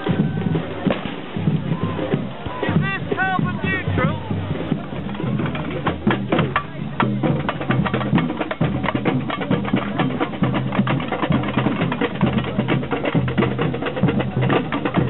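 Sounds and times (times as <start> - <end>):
fast drum strokes: 0.0 - 15.0
marching band playing: 0.0 - 15.0.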